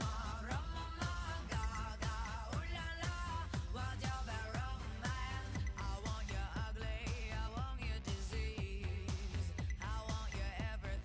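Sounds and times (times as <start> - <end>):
pop music: 0.0 - 11.0.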